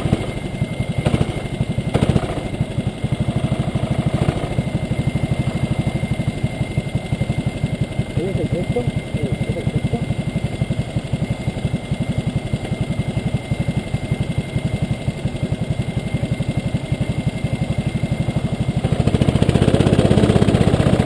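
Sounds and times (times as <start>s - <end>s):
kart engine idling: 0.0s - 21.0s.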